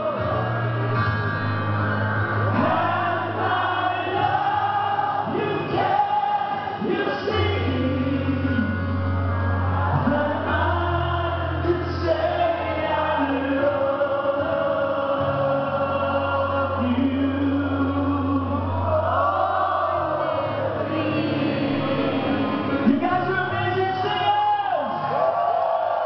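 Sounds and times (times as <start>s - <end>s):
live band with singing: 0.0s - 26.0s.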